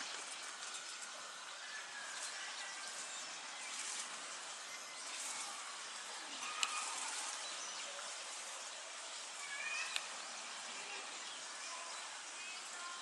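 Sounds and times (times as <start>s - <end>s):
faint bird chirps: 0.0s - 13.0s
outdoor background hiss: 0.0s - 13.0s.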